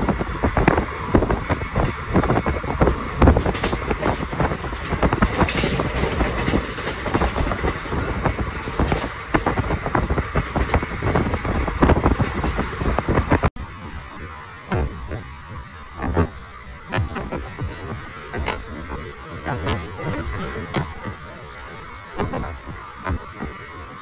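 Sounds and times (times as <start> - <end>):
train rumbling on tracks: 0.0 - 24.0
wheels clattering over rails: 0.0 - 24.0.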